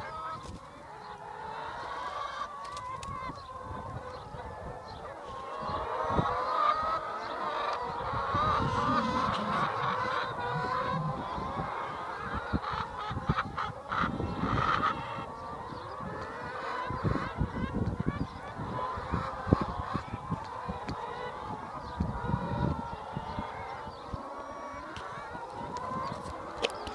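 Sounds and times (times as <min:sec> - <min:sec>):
hens clucking and squawking: 0:00.0 - 0:26.9.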